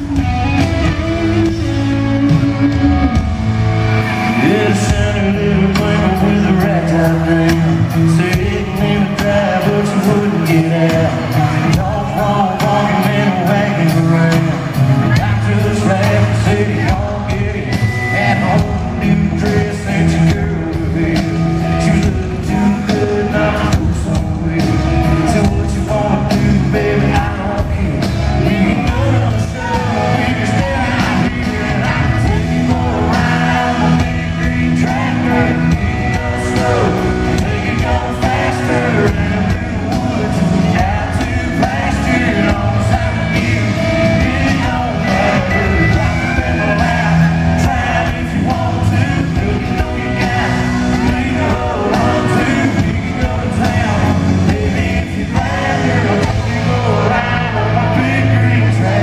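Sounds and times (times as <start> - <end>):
fans yelling along: 0.0 - 59.0
live country-rock band: 0.0 - 59.0
man singing lead: 0.0 - 59.0.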